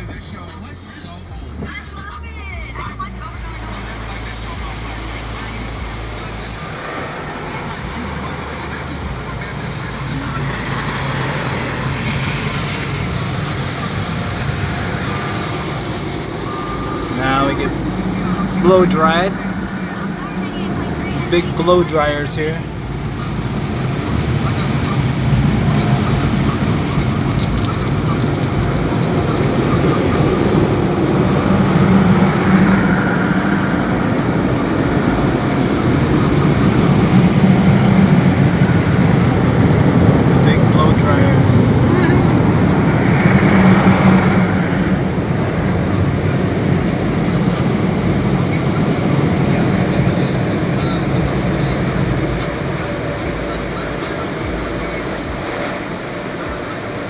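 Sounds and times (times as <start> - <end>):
car wash machinery rushing: 0.0 - 57.0.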